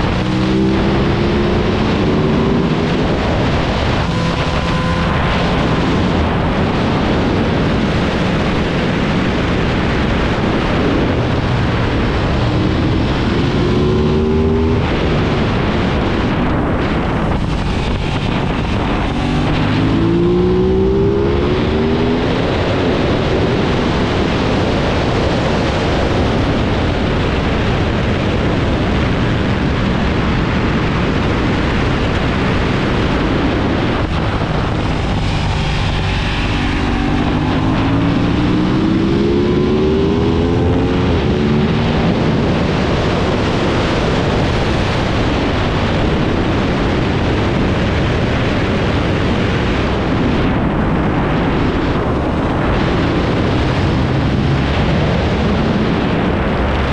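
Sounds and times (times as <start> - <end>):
motorcycle engine accelerating: 0.0 - 56.9
wind noise on microphone: 0.0 - 56.9.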